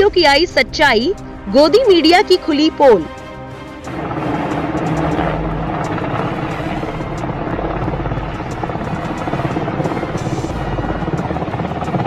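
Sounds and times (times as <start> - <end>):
helicopter rotor noise: 0.0 - 12.0.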